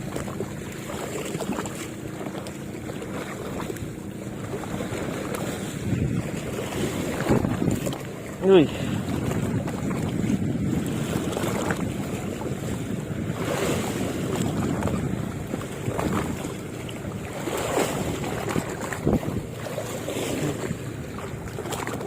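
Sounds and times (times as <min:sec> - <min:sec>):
sea water washing: 0:00.0 - 0:22.0
wind buffeting microphone: 0:02.8 - 0:22.0.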